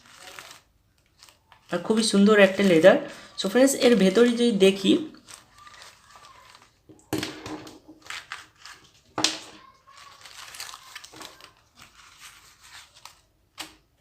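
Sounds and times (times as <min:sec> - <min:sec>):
sharp crinkling: 0:00.0 - 0:07.1, 0:07.8 - 0:13.8.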